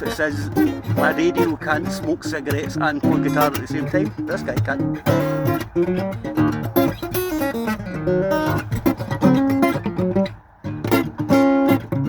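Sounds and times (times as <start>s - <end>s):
guitar plucked and strummed: 0.0s - 12.0s.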